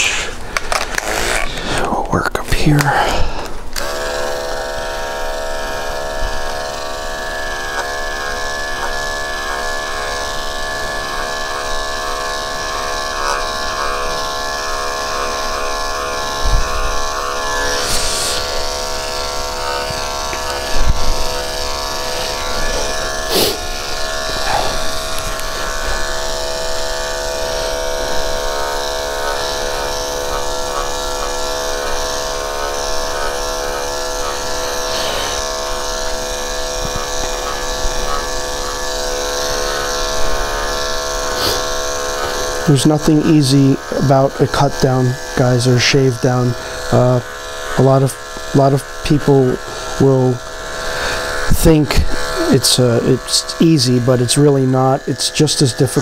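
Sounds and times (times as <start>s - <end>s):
electric clipper buzzing: 0.0s - 56.0s.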